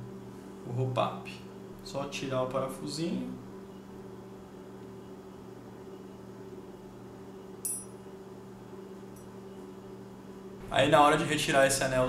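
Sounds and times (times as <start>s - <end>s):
steady low hum with tones: 0.0s - 12.0s.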